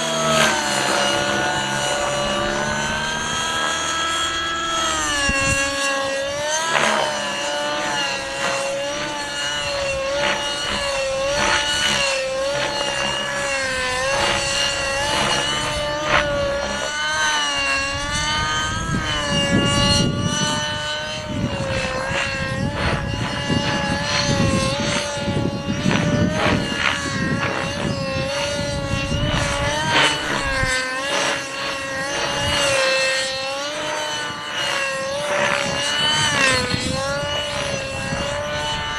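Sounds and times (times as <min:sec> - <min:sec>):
model helicopter engine and rotors: 0:00.0 - 0:38.9
wind rumbling on microphone: 0:00.0 - 0:38.9.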